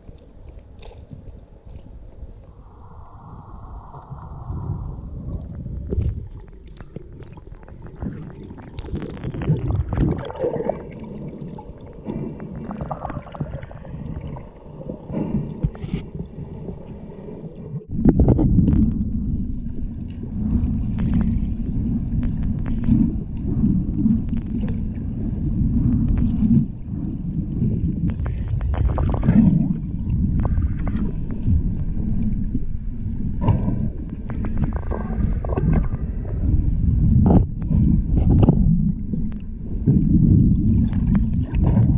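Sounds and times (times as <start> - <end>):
muffled underwater rumble: 0.0 - 41.9.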